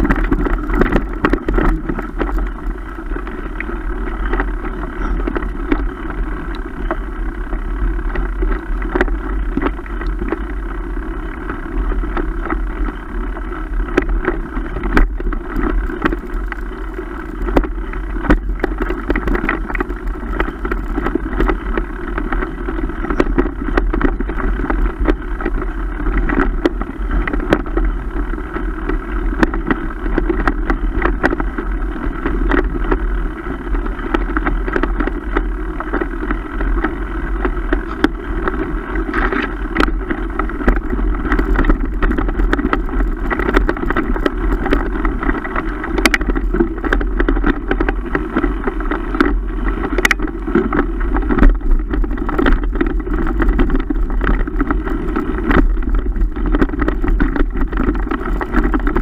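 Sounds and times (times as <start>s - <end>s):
bike rattling over bumps: 0.0s - 59.0s
bike tyres rolling on dirt: 0.0s - 59.0s.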